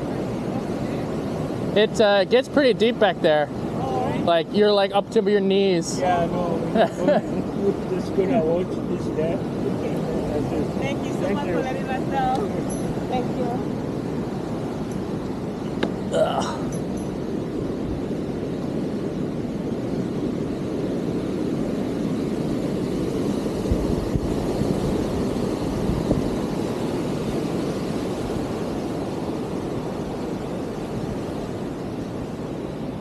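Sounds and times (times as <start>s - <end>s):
rumbling wind noise: 0.0s - 33.0s.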